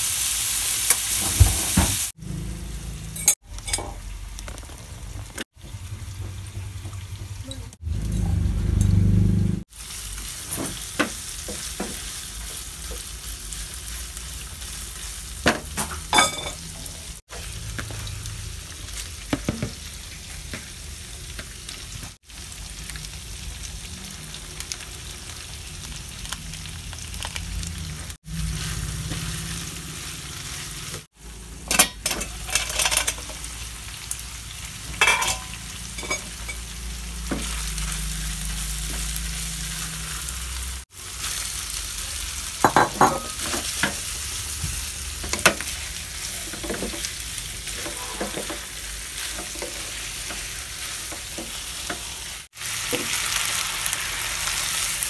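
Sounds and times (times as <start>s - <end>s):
food sizzling in frying pan: 0.0s - 7.9s, 8.8s - 55.0s.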